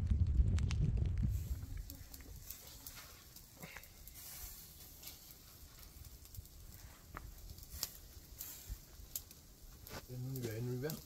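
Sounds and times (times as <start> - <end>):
meat crackling on wood fire: 0.0 - 11.0.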